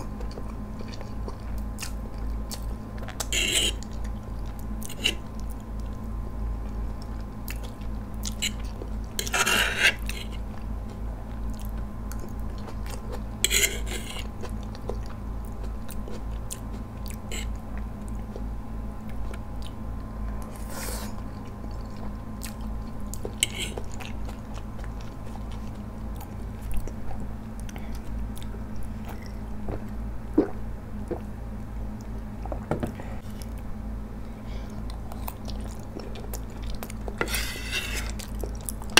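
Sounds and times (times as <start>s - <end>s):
person chewing noodles: 0.0s - 32.5s, 34.6s - 38.9s
low hum: 0.0s - 38.9s.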